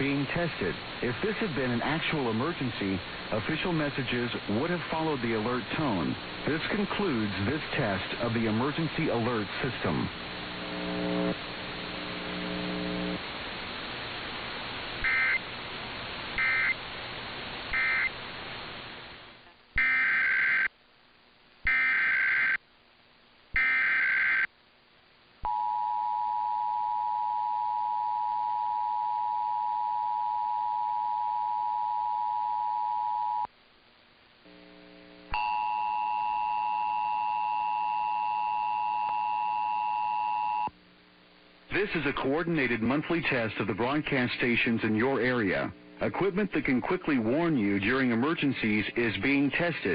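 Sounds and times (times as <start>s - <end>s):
broadcast hiss: 0.0s - 25.6s, 28.0s - 49.9s.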